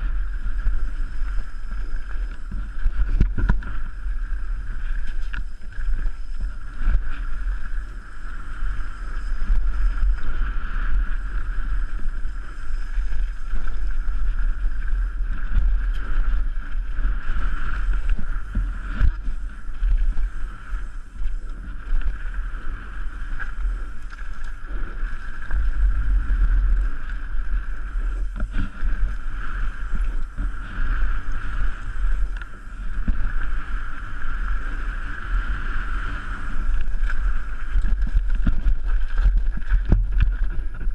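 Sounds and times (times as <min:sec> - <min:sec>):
steady high buzz: 0:00.0 - 0:40.9
wind buffeting microphone: 0:00.0 - 0:40.9.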